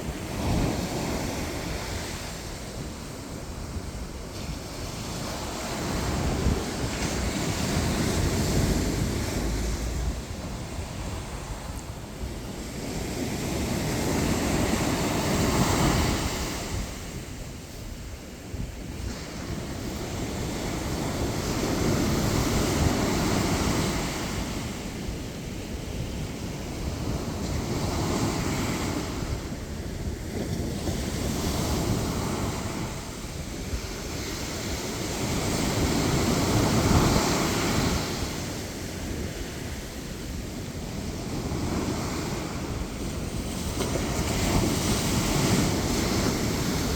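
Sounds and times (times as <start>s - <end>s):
sea waves breaking on beach: 0.0s - 46.9s.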